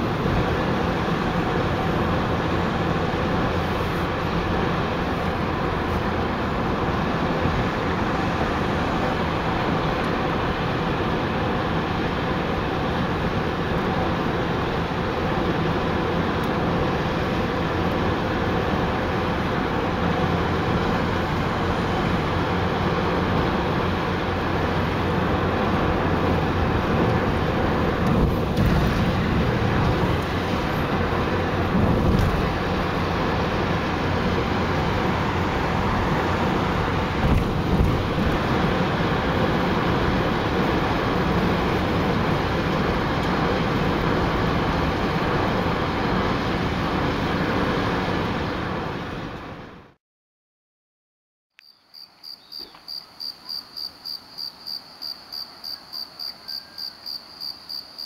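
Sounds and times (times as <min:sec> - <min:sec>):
car road and engine noise: 0:00.0 - 0:50.0, 0:51.7 - 0:58.0.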